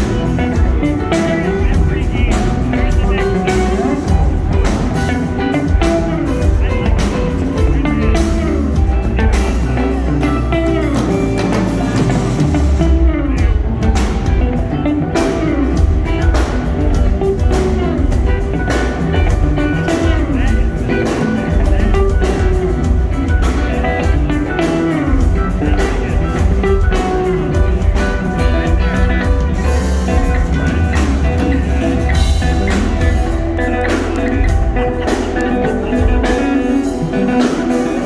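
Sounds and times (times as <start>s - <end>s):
electric guitar lines: 0.0s - 38.0s
live rock band playing: 0.0s - 38.0s.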